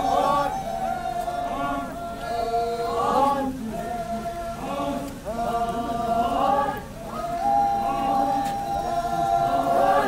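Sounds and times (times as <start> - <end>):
group chanting folk song: 0.0 - 10.0.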